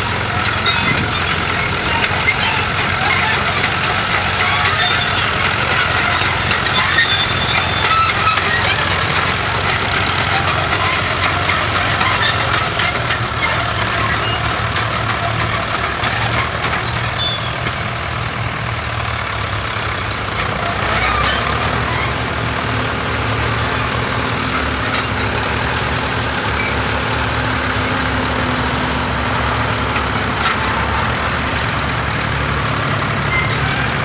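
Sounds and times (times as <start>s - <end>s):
tractor engine under load: 0.0s - 34.0s.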